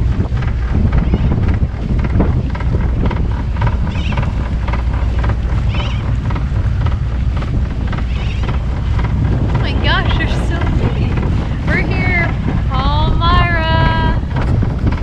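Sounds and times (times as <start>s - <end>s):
wind buffeting microphone: 0.0s - 15.0s
seabirds calling: 0.9s - 14.1s.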